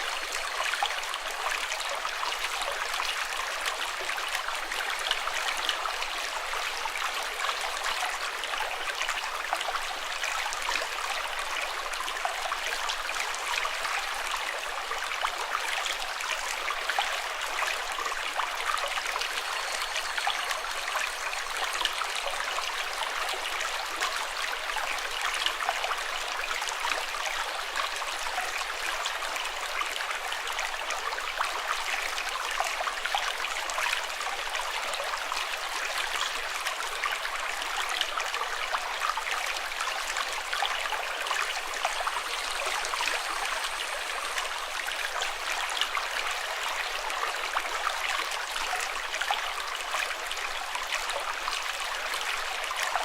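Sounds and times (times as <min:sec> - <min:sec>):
brook babbling and trickling: 0:00.0 - 0:53.0.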